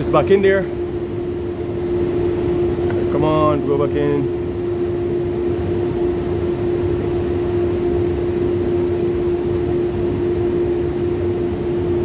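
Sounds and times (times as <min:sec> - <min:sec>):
hvac machinery hum: 0:00.0 - 0:12.0.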